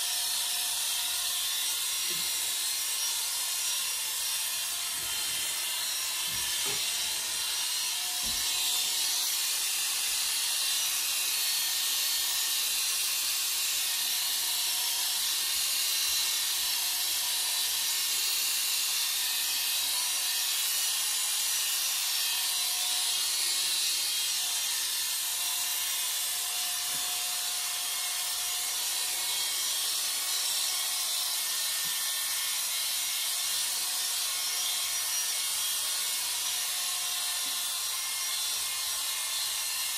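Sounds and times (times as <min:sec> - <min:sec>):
electric hair clippers shaving: 0:00.0 - 0:39.9.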